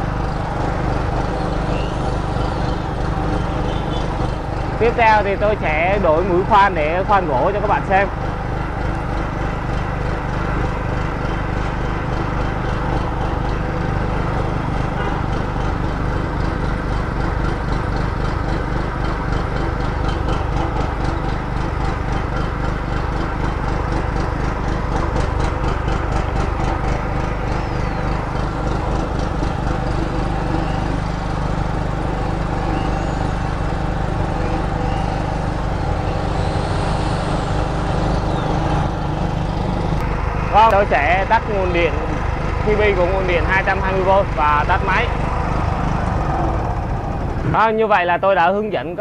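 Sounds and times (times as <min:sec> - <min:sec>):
generator engine running: 0:00.0 - 0:49.0.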